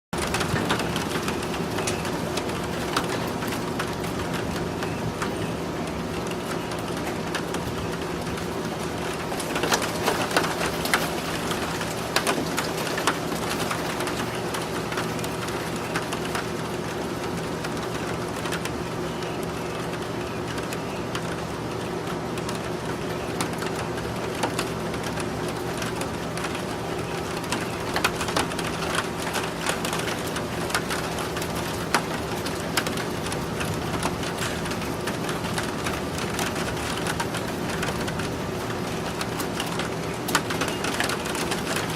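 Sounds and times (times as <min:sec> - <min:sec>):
steady rain: 0:00.2 - 0:41.9.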